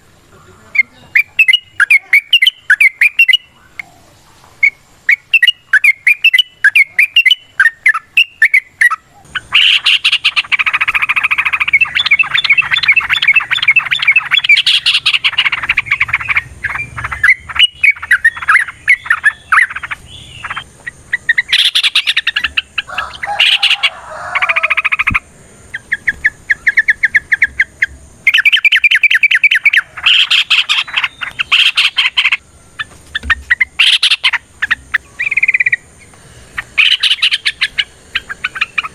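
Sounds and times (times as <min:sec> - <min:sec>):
birds singing bubbling notes: 0:00.0 - 0:38.9.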